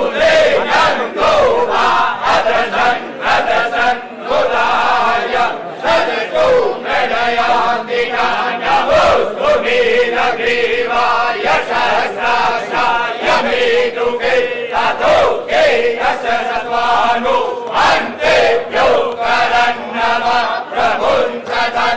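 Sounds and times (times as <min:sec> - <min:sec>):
men chanting mantras: 0:00.0 - 0:21.9.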